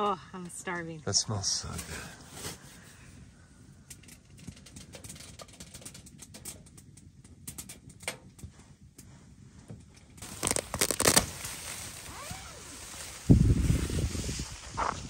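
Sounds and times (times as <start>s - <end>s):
wind and snow hitting tent: 1.4s - 15.0s.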